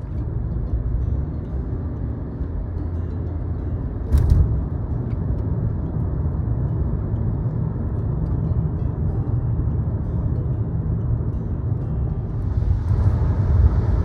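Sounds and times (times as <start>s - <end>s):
road noise inside a car: 0.0s - 14.0s.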